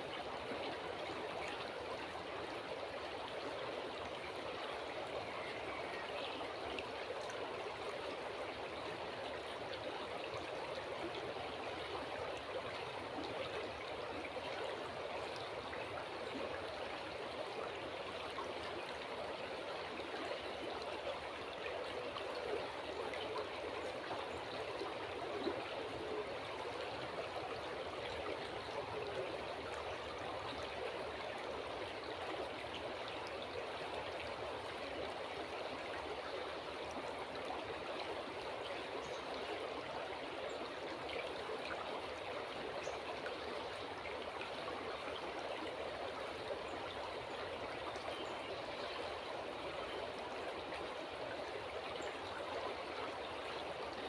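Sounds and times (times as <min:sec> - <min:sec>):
river water babbling: 0:00.0 - 0:54.0.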